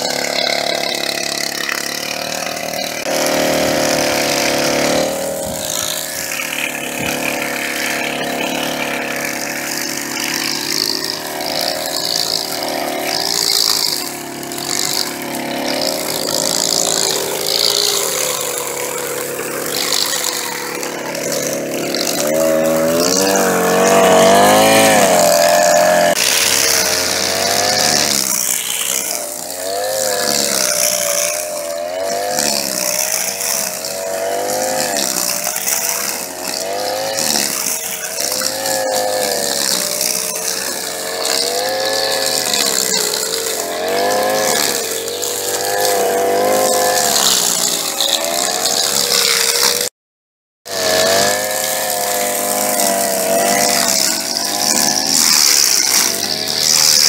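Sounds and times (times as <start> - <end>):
string trimmer engine: 0.0 - 50.0, 50.6 - 57.0.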